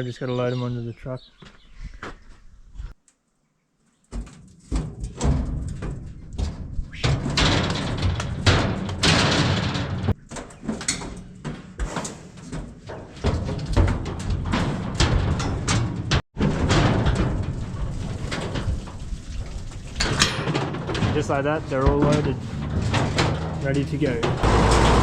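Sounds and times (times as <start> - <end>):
hooves clattering on metal: 3.8 - 25.0.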